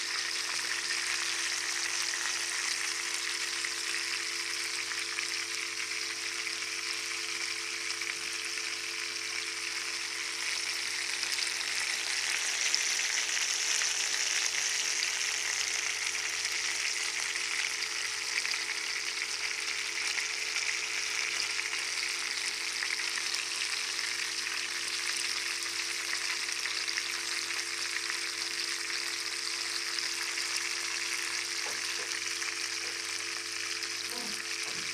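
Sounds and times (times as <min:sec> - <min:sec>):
fish frying sizzle: 0:00.0 - 0:34.9.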